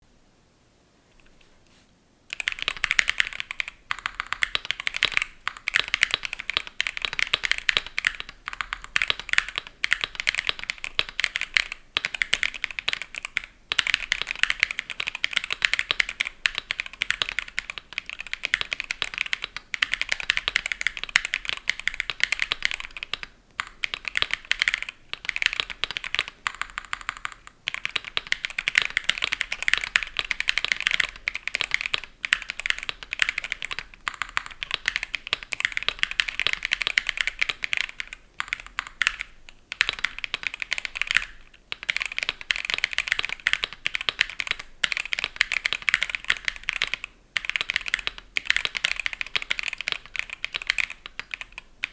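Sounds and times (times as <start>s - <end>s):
fast typing on mechanical keyboard: 2.3s - 51.9s.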